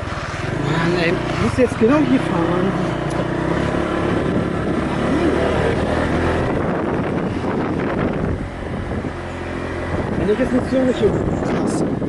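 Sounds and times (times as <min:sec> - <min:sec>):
small motorbike engine running: 0:00.0 - 0:12.0
wind buffeting microphone: 0:00.0 - 0:12.0.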